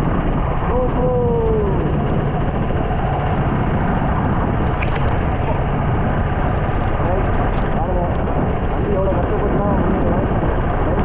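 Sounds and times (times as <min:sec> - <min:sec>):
vehicle driving on wet road: 0:00.0 - 0:11.0.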